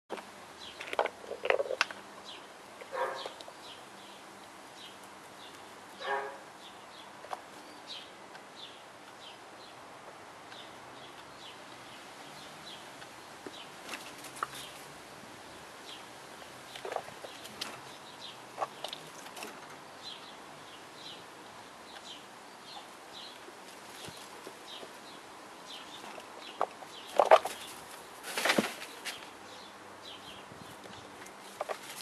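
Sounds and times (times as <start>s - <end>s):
small birds chirping: 0.2s - 32.0s.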